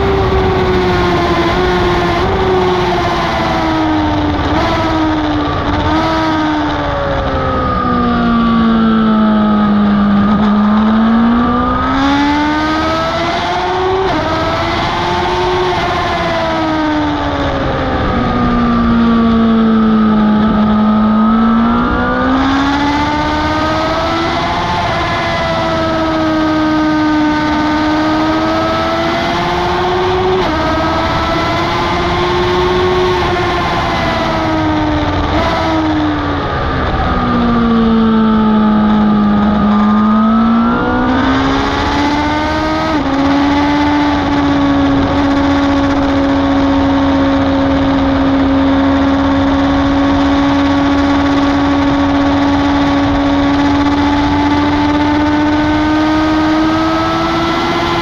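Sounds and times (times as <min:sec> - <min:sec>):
wind rush: 0:00.0 - 0:08.9, 0:09.5 - 0:58.0
motorcycle engine at high revs: 0:00.0 - 0:58.0.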